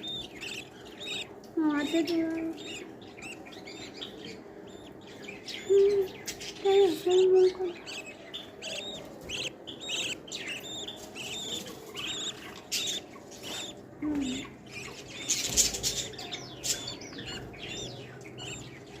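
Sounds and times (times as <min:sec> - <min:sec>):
baby birds chirping: 0:00.0 - 0:19.0.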